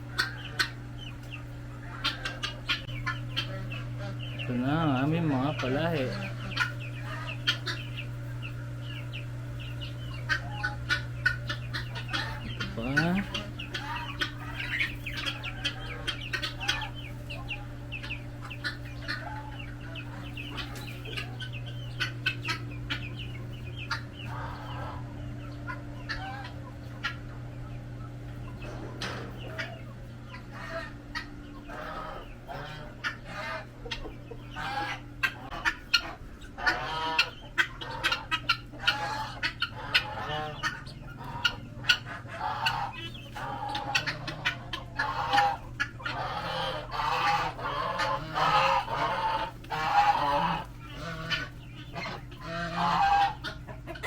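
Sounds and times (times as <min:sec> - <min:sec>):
chickens clucking: 0:00.0 - 0:54.0
steady low hum: 0:00.0 - 0:54.0.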